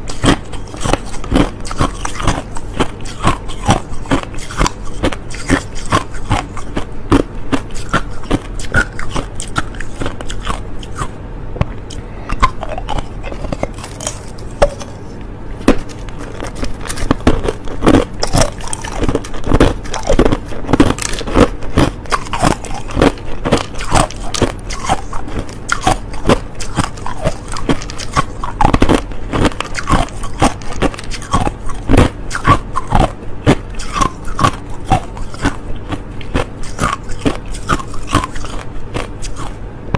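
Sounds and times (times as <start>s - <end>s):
person chewing crunchy ice: 0.0s - 39.6s.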